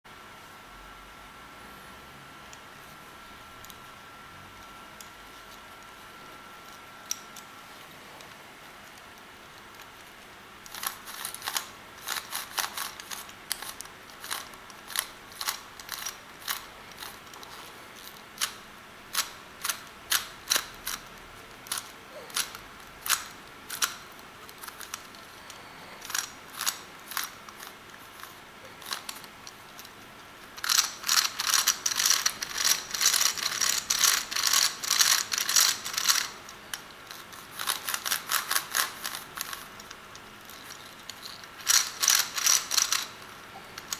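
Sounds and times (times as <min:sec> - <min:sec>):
gear puzzle clicking: 0:08.2 - 0:43.9.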